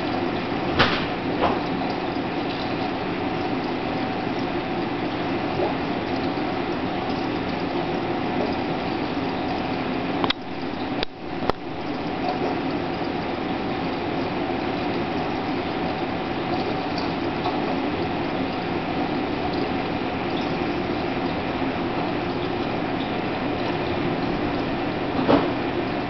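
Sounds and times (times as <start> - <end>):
aquarium pump hum: 0.0 - 26.0.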